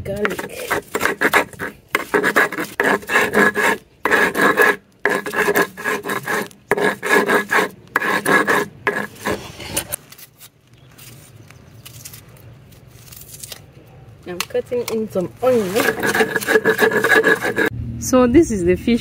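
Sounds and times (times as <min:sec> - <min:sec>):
rough rasping food preparation: 0:00.0 - 0:13.8, 0:14.6 - 0:17.7.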